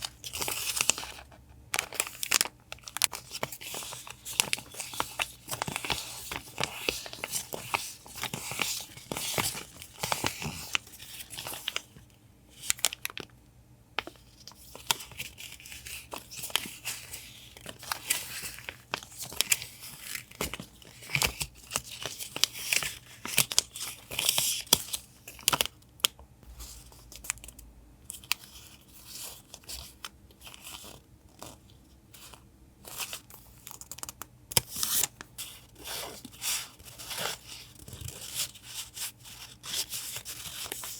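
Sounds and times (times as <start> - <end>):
paper rustling and crinkling: 0.0 - 13.2, 14.0 - 25.7, 26.5 - 40.9.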